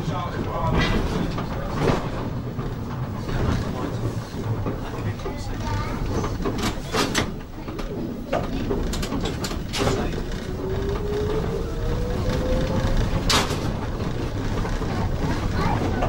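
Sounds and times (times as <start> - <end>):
trolleybus running rumble: 0.0 - 16.0.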